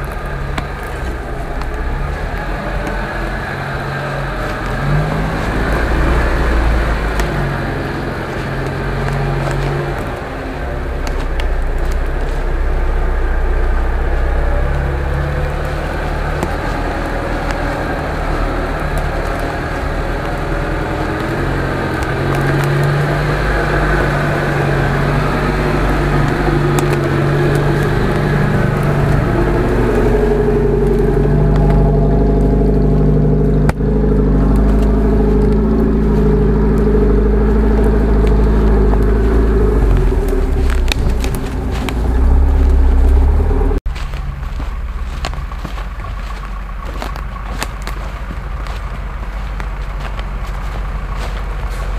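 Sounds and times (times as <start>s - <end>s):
off-road vehicle engine running: 0.0s - 51.9s.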